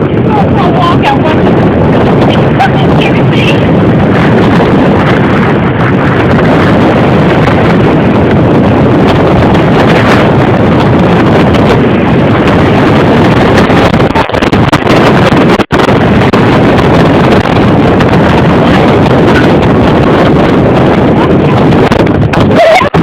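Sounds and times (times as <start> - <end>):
wind buffeting a microphone: 0.0 - 23.0.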